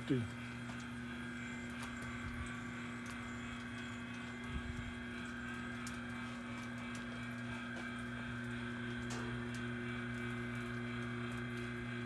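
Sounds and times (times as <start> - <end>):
smoker racks mechanical hum: 0.0 - 12.0.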